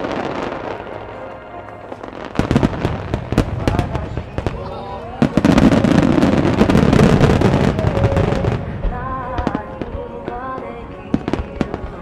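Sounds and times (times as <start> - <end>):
fireworks bangs: 0.0 - 12.0
fireworks bursting and crackling: 0.0 - 12.0
music playing: 0.0 - 12.0.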